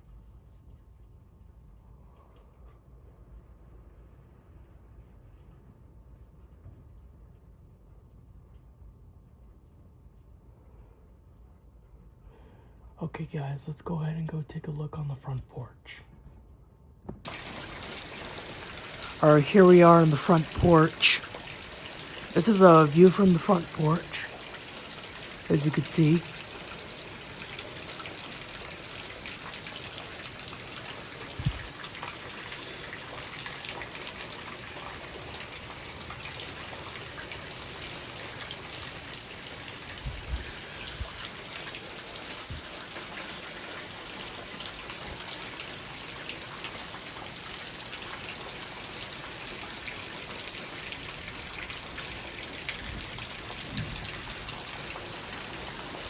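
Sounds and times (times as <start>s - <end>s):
steady rain hiss: 0.0s - 16.4s, 17.2s - 56.0s.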